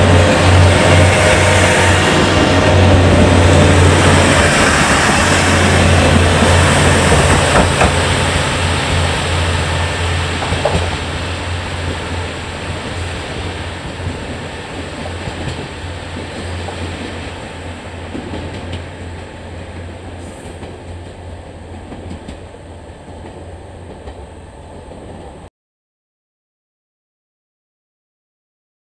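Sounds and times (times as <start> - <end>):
diesel railcar engine hum: 0.0 - 25.5
train wheels on rails: 0.0 - 25.5.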